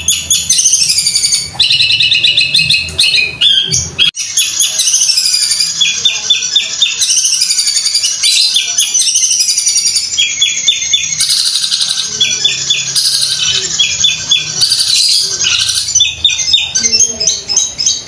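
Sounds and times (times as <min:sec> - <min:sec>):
bird singing rapid chatter: 0:00.0 - 0:18.0.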